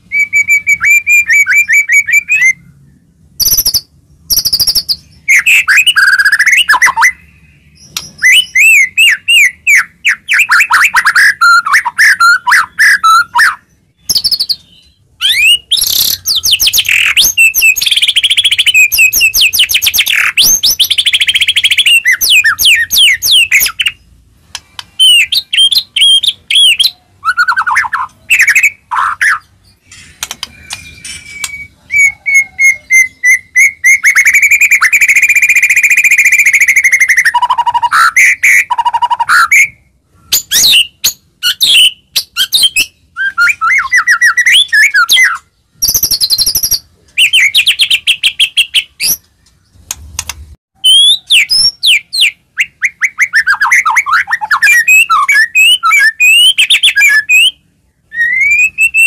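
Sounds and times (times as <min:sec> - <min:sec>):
songbird whistling and trilling: 0:00.0 - 0:49.8, 0:50.8 - 0:59.0.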